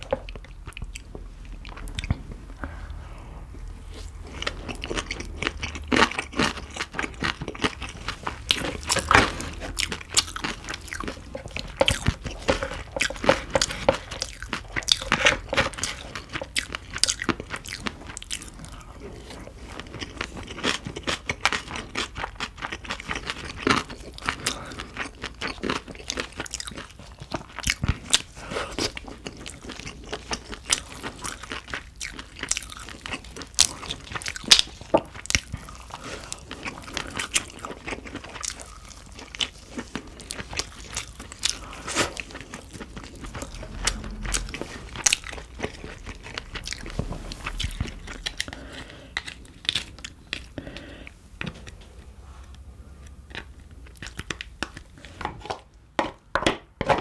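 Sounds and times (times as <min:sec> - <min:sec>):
chewing and wet mouth sounds: 0:00.0 - 0:55.2.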